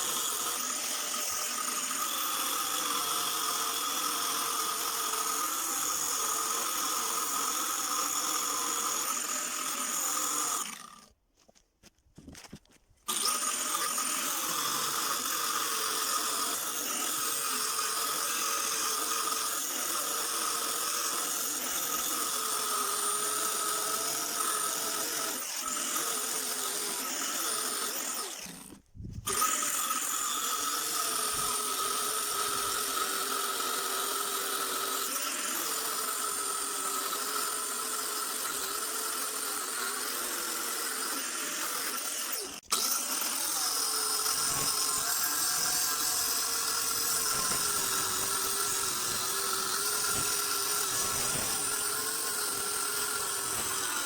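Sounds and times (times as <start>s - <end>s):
angle grinder cutting metal: 0.0s - 11.1s, 13.0s - 54.0s.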